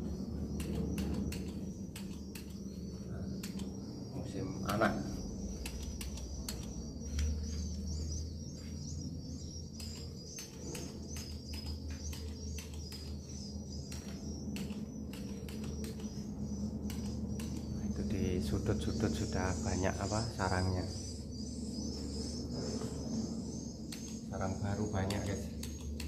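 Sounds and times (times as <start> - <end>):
low steady hum: 0.0 - 26.0
swiftlets chirping: 0.0 - 26.0.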